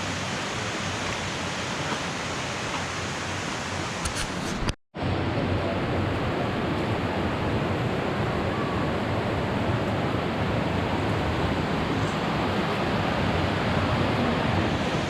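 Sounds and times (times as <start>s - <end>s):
creek and waterfall rushing: 0.0s - 4.7s, 7.0s - 15.0s.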